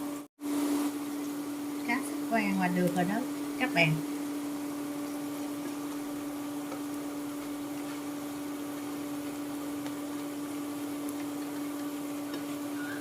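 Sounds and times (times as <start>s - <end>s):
electrical hum: 0.0s - 13.0s
fish frying in hot oil: 0.1s - 13.0s.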